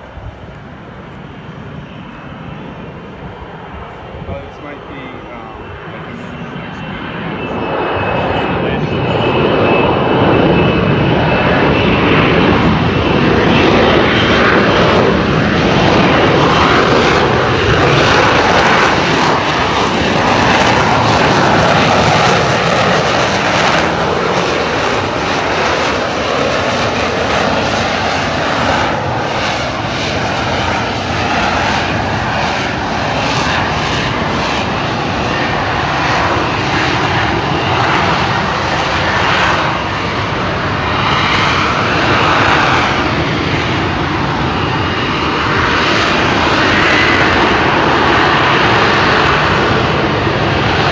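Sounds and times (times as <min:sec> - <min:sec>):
jet engine hovering: 0:00.0 - 0:50.9.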